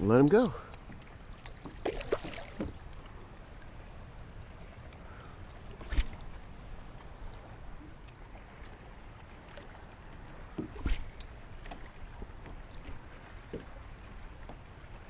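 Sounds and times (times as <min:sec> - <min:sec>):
water lapping against kayak hull: 0:00.0 - 0:15.0.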